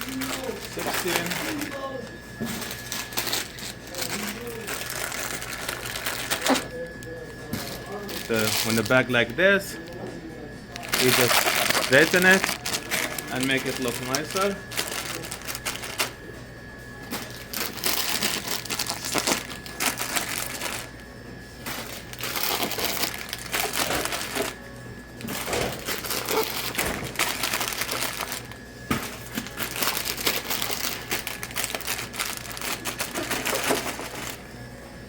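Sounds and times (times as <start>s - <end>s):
chip bags crinkling: 0.0s - 10.0s, 10.7s - 16.2s, 17.1s - 34.4s.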